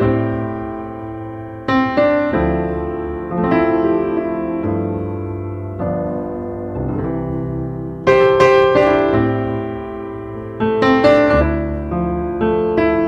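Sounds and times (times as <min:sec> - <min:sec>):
slow gentle piano: 0:00.0 - 0:13.0.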